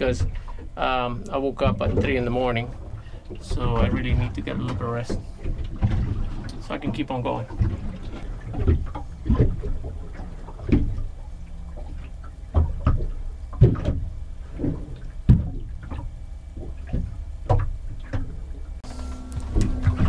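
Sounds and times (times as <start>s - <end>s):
low steady rumble: 0.0s - 20.0s
waves slapping against boat hull: 0.0s - 20.0s.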